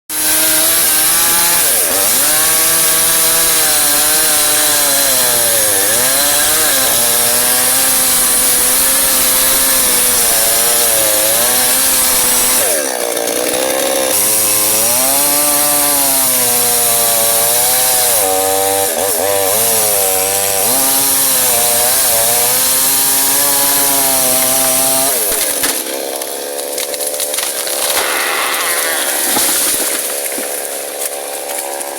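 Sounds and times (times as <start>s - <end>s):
chainsaw cutting wood: 0.1s - 31.9s.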